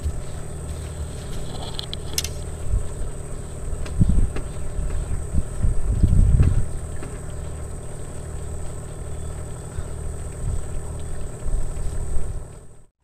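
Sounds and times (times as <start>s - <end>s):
engine idling: 0.0s - 12.9s.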